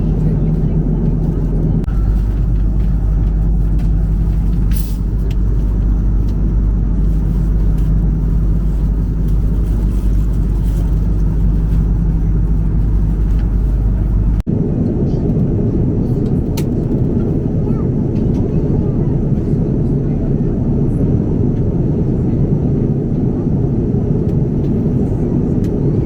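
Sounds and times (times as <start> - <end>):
airplane cabin engine drone: 0.0 - 26.0.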